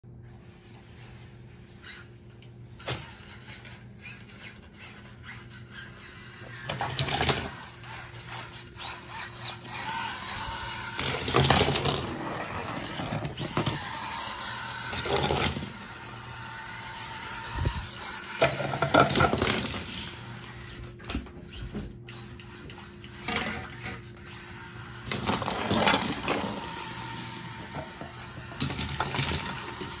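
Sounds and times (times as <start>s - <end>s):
toy truck motor whirring: 1.7s - 30.0s
toy cars clattering: 2.9s - 20.8s, 22.1s - 30.0s.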